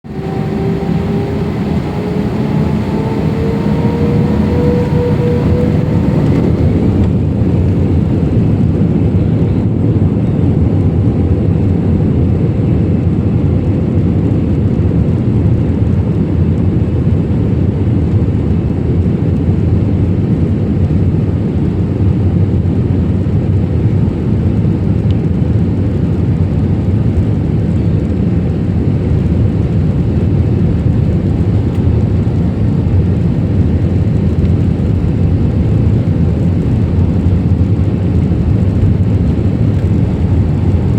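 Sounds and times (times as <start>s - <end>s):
engine and airflow rumble: 0.0s - 40.9s
jet engine whine: 0.0s - 40.9s.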